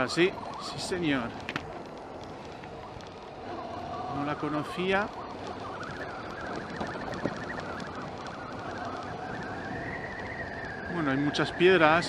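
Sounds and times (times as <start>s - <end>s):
wind and tyre noise: 0.0s - 12.0s.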